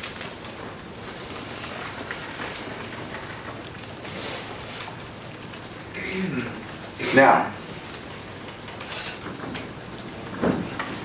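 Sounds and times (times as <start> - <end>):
room tone hiss: 0.0 - 11.0.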